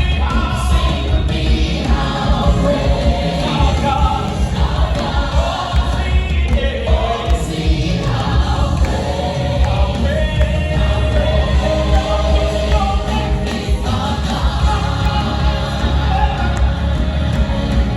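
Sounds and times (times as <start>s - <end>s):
band playing: 0.0s - 17.9s
congregation and choir singing: 0.0s - 17.9s
heavy steady bass: 0.0s - 17.9s.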